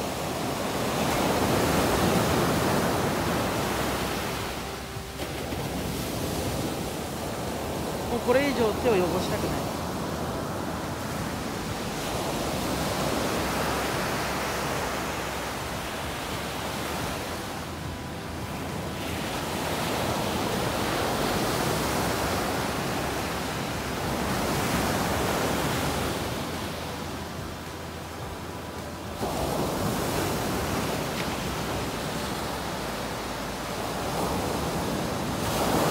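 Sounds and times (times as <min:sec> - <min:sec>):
ocean surf breaking on beach: 0:00.0 - 0:35.9.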